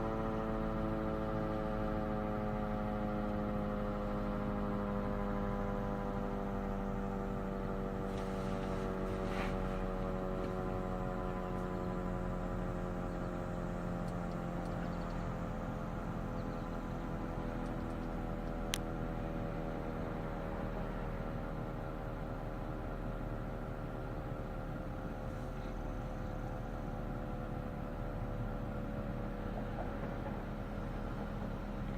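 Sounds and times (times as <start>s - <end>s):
tornado siren winding down: 0.0s - 31.9s.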